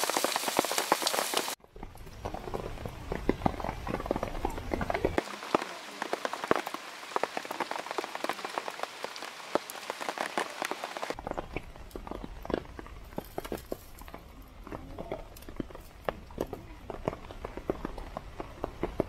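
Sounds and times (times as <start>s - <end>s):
raindrops tapping: 0.0s - 19.0s.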